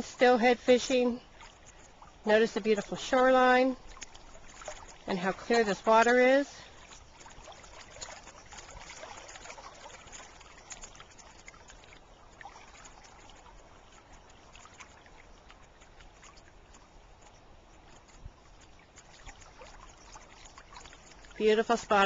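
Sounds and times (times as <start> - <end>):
river water trickling over gravel: 0.0 - 22.0.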